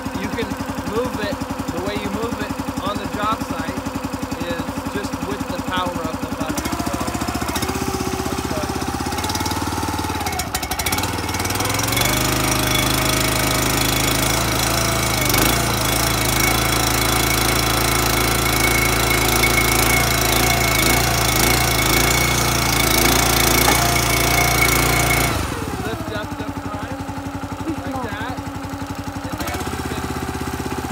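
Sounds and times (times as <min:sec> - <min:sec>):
gas engine running at full throttle: 0:00.0 - 0:30.9
hydraulic boom and bucket digging: 0:00.0 - 0:30.9.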